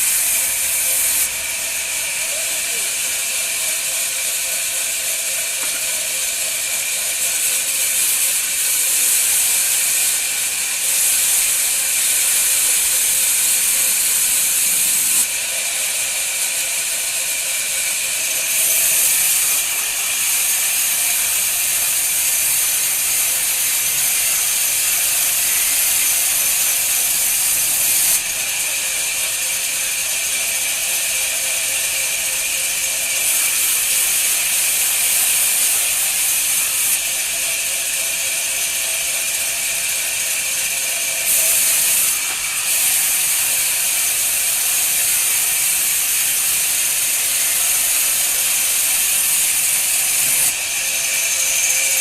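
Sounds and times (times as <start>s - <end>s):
woodworking machine cutting wood: 0.0s - 52.0s.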